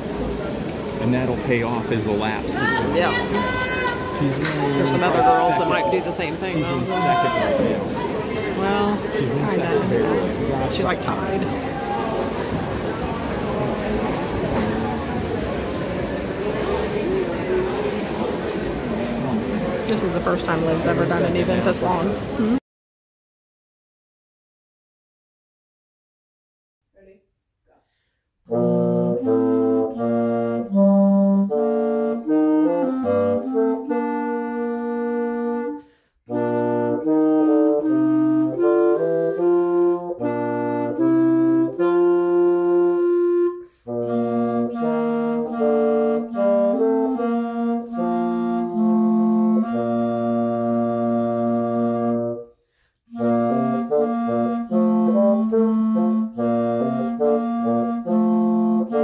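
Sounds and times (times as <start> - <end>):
clarinet: 1.0 - 15.8, 19.2 - 22.6, 28.5 - 59.0
bassoon: 1.0 - 18.5, 19.1 - 22.6, 28.5 - 52.5, 53.1 - 59.0.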